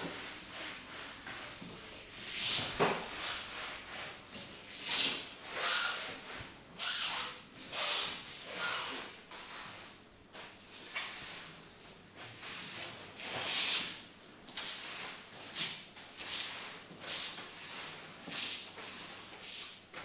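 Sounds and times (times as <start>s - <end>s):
broom sweeping a hard floor: 0.0s - 20.0s.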